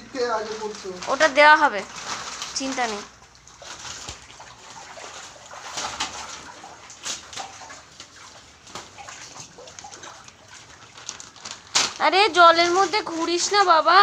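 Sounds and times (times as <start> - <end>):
splashing through floodwater: 0.0 - 14.0.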